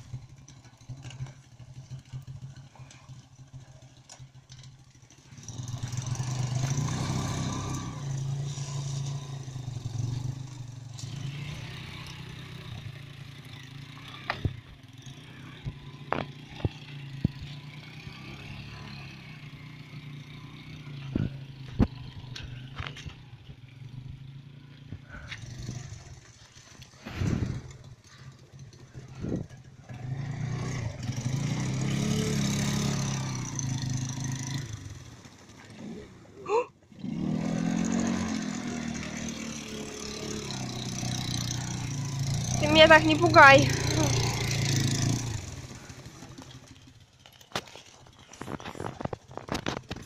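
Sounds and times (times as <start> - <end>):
motorcycle engine under load: 0.0 - 50.0.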